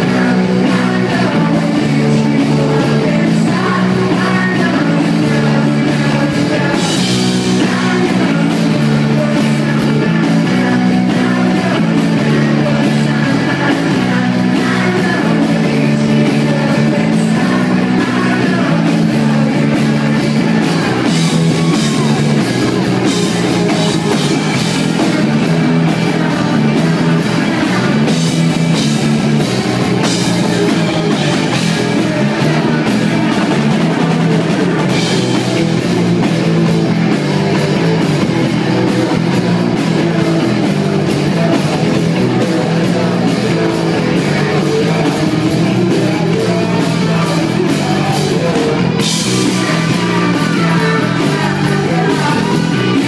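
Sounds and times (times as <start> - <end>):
bass guitar riff: 0.0 - 53.0
drum kit: 0.0 - 53.0
electric guitar: 0.0 - 53.0.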